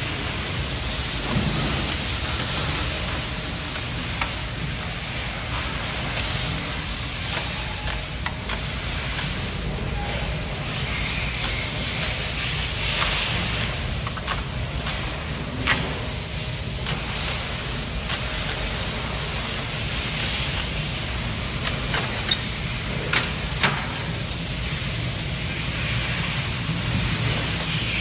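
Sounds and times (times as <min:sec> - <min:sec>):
low workshop hum: 0:00.0 - 0:28.0.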